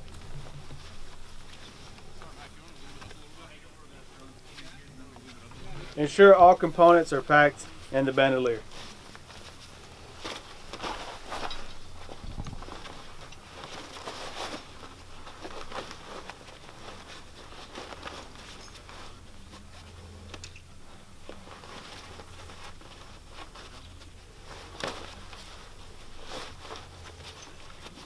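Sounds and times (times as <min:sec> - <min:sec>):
low steady hum: 0:00.0 - 0:28.0
rustling fabric: 0:00.0 - 0:28.0.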